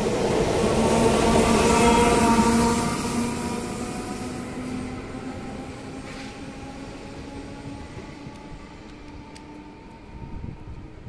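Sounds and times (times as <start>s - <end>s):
electric locomotive hum: 0.0s - 11.0s
train rolling rumble: 0.0s - 11.0s.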